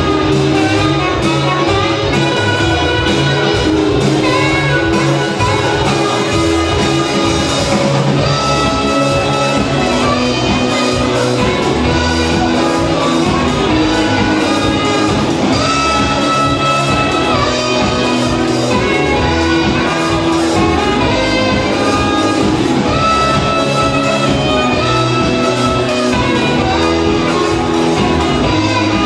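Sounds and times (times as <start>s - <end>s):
live rock band playing: 0.0s - 29.0s
saxophone notes: 0.0s - 29.0s.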